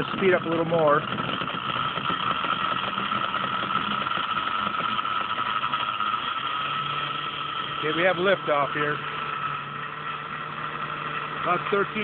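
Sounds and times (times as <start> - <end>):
electric motor high whine: 0.0 - 12.0.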